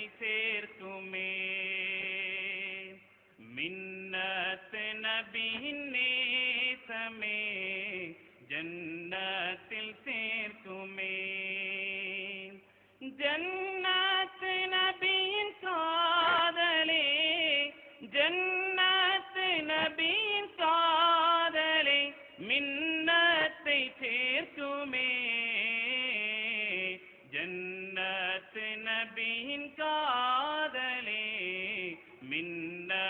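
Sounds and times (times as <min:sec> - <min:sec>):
person singing devotional song: 0:00.0 - 0:33.0.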